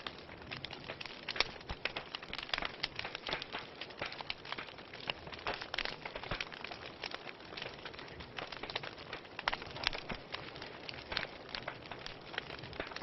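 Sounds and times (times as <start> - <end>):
fire popping and snapping: 0.0 - 13.0
soft hiss of burning: 0.0 - 13.0.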